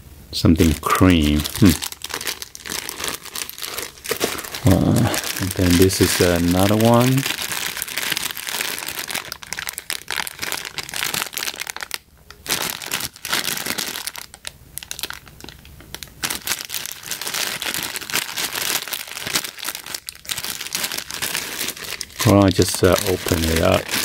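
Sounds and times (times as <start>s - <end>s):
plastic bag crinkling: 0.4s - 24.0s.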